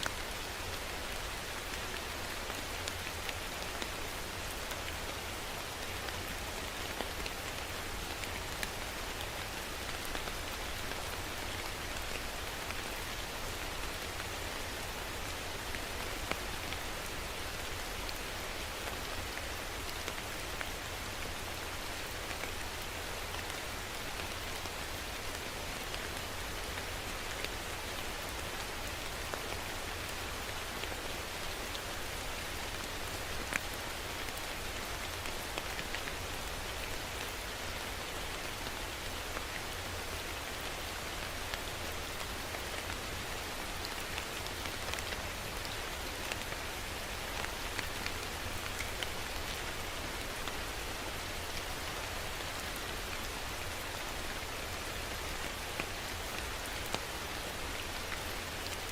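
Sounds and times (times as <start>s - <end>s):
rain pattering: 0.0s - 58.9s.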